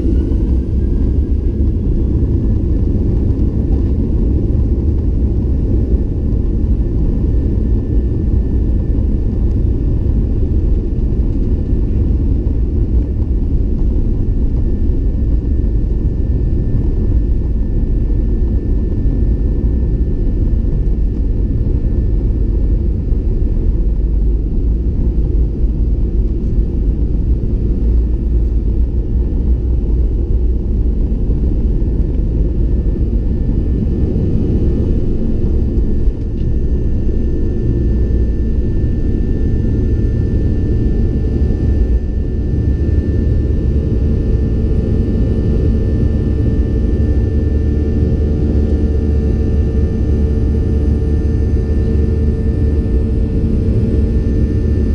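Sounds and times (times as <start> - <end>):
jet engines rumbling: 0.0 - 54.9.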